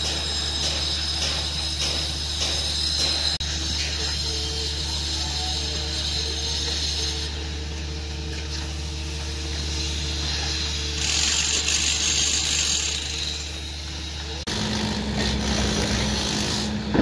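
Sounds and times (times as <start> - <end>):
low mechanical hum: 0.0 - 12.1, 12.9 - 17.0.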